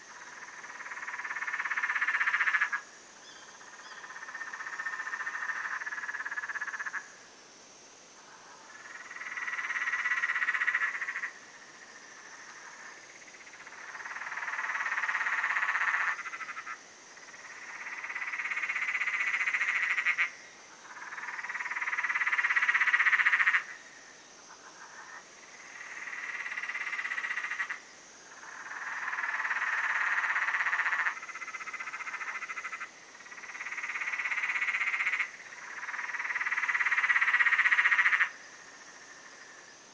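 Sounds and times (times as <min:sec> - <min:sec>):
frog calls: 0:00.0 - 0:07.1, 0:08.2 - 0:39.7
faint high hiss: 0:00.0 - 0:39.9.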